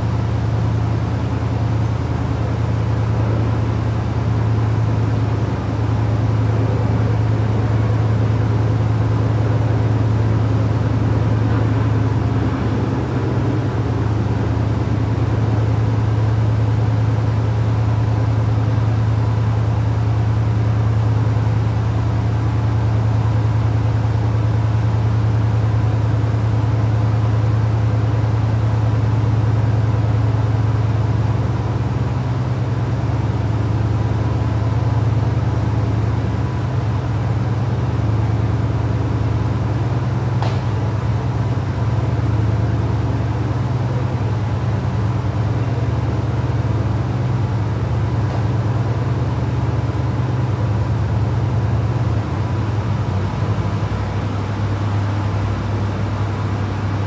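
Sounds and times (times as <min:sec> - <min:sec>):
car engines idling: 0:00.0 - 0:57.0.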